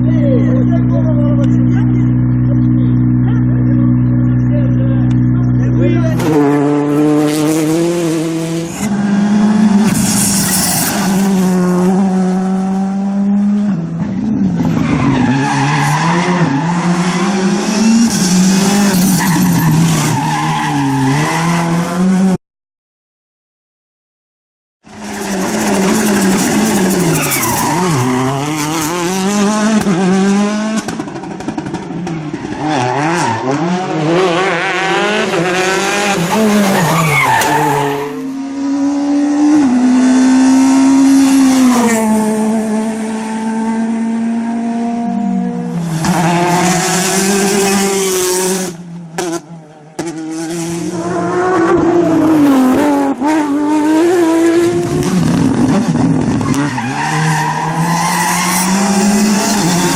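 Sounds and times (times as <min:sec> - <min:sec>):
rally car engine revving high: 0:00.0 - 0:22.4, 0:24.8 - 0:59.9.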